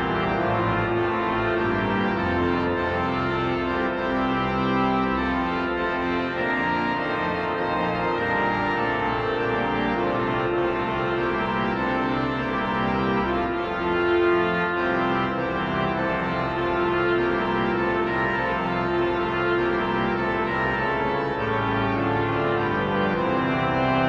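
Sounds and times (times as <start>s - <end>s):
church organ playing chords: 0.0s - 24.0s.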